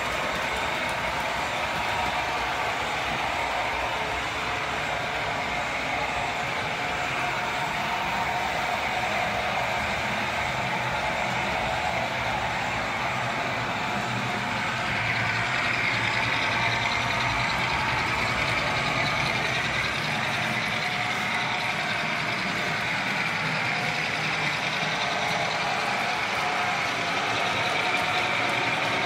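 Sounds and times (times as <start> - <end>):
model train running on track: 0.0 - 29.0.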